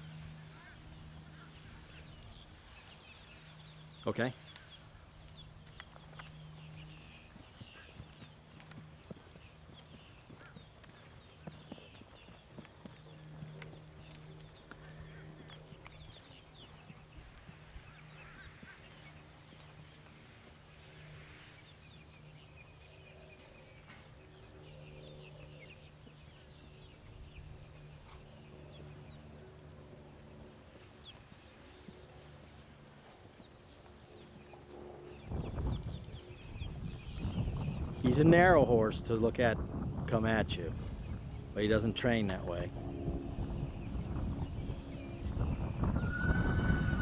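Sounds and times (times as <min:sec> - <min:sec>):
steady low hum: 0:00.0 - 0:46.2
horse hoofbeats on dirt: 0:00.5 - 0:21.0, 0:21.8 - 0:38.6, 0:39.4 - 0:47.0.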